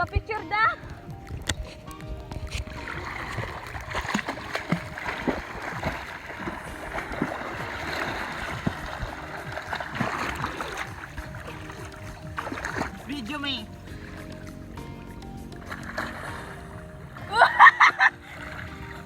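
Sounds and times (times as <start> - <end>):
sea water splashing and sloshing: 0.0 - 19.0.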